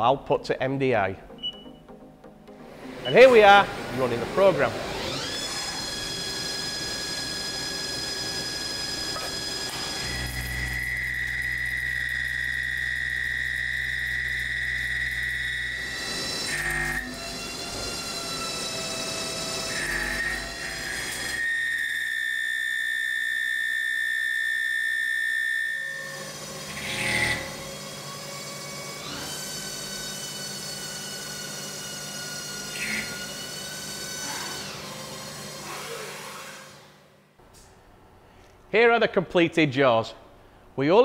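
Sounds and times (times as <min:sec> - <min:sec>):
lathe cutting whine: 0:03.0 - 0:36.5.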